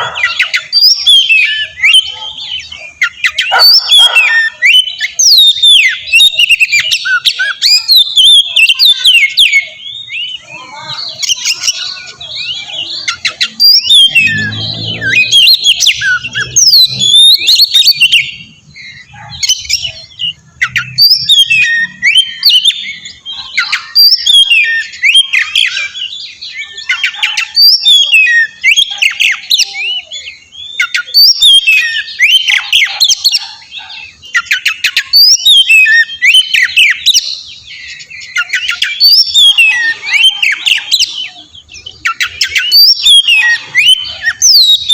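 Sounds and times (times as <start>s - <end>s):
songbird singing whistles: 0.0s - 44.9s.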